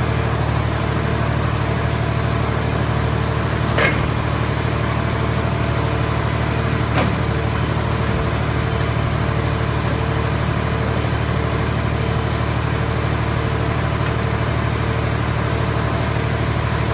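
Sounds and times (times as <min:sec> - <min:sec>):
baler engine droning: 0:00.0 - 0:16.9.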